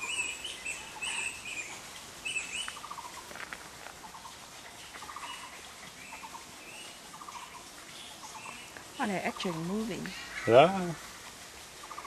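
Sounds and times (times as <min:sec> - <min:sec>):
birds chirping: 0:00.0 - 0:11.2, 0:11.8 - 0:12.0.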